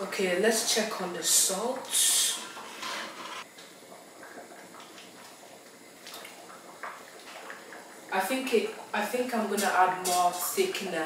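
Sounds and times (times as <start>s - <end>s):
soup simmering in pot: 0.0s - 11.0s.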